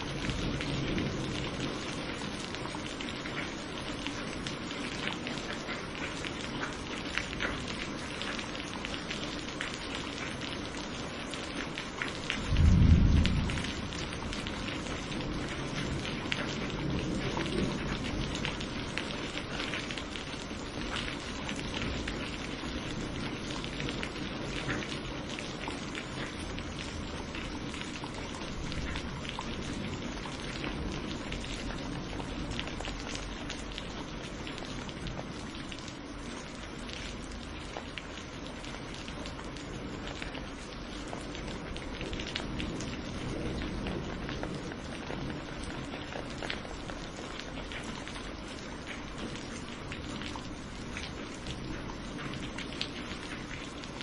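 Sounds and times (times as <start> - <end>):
steady rain with drop ticks: 0.0 - 54.0.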